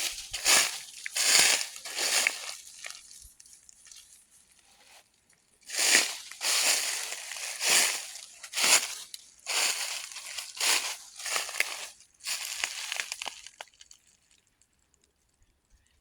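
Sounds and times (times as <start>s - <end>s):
crunching rustles: 0.0s - 5.0s, 5.7s - 14.2s.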